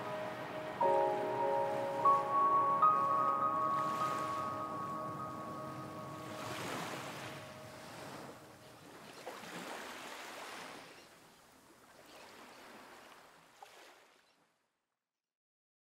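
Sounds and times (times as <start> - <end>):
faint ocean waves washing in: 0.0 - 14.2.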